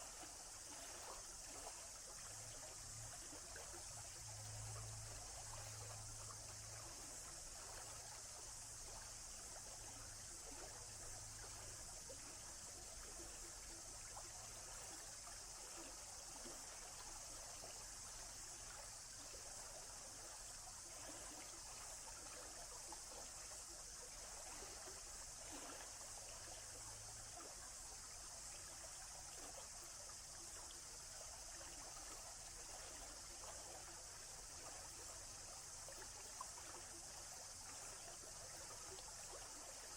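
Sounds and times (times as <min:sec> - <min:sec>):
faint low hum: 0:00.0 - 0:39.9
stream trickling: 0:00.0 - 0:39.9.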